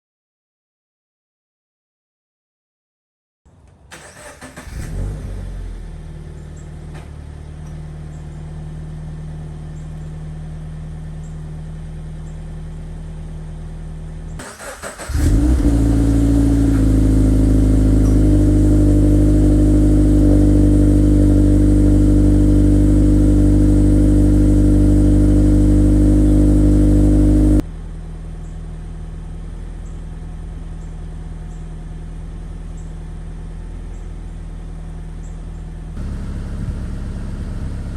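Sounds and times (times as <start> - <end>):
car engine starting and idling: 3.5 - 37.9
loud deep engine idle: 5.6 - 37.9.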